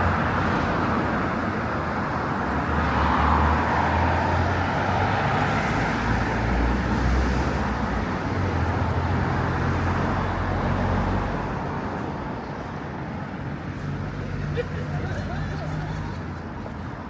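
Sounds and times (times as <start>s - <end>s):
passing cars with low rumble: 0.0s - 17.0s.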